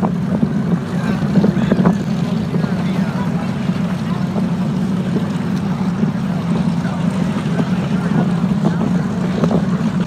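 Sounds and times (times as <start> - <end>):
airplane piston engines droning: 0.0 - 10.0
wind buffeting microphone: 0.0 - 10.0.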